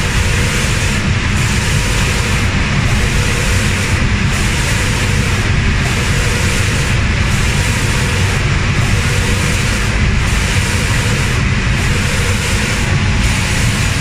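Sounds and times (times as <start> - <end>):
spray painting machine hiss and rumble: 0.0 - 14.0.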